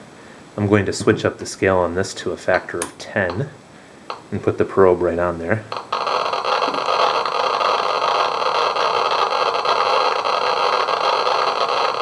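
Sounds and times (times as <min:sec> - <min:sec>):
geiger counter crackling: 0:00.6 - 0:12.0.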